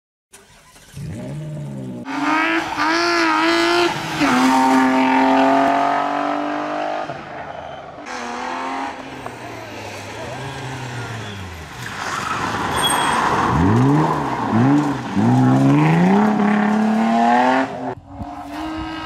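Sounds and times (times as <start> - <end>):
rally car engine revving: 0.4 - 19.0.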